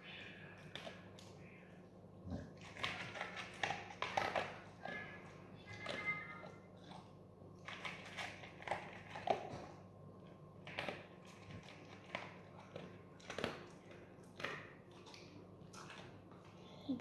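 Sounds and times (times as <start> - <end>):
dog crunching dry kibble: 2.4 - 16.6.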